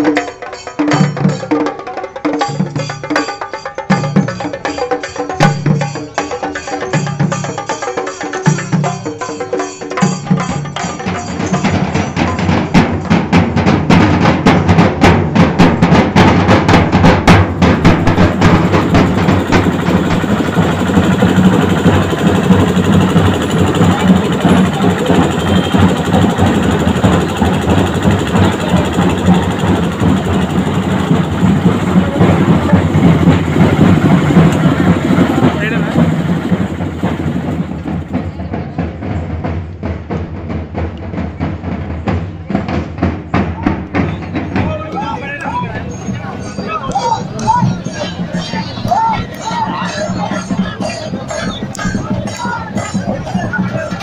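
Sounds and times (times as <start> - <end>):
fast dense drumming: 10.0 - 54.0.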